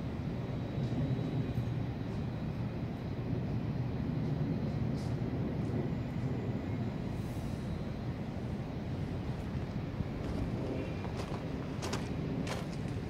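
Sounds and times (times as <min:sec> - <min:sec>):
low rumble of city ambience: 0:00.0 - 0:13.0.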